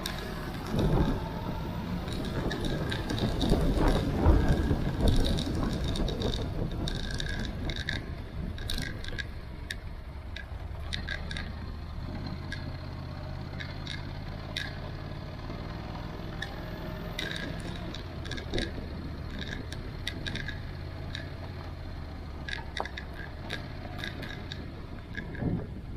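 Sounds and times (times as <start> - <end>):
motorcycle engine climbing: 0.0 - 25.9
sharp ticks and clicks: 0.0 - 25.9.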